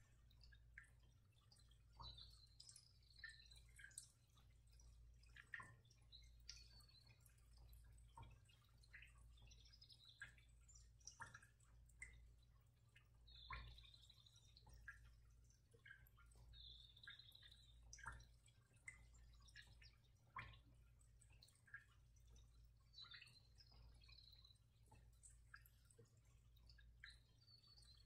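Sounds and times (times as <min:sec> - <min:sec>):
faint ticks: 0:00.0 - 0:28.0.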